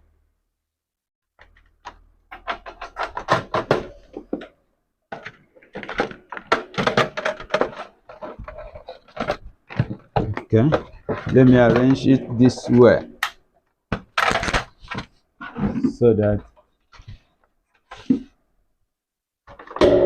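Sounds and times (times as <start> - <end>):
boxes and cables clattering: 1.4 - 13.2, 13.9 - 18.4.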